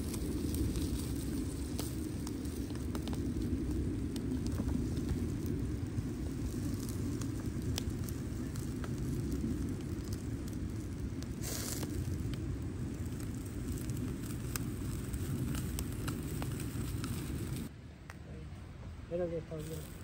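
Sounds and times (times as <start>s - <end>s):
fire crackling and popping: 0.0s - 20.0s
low rumble: 0.0s - 20.0s.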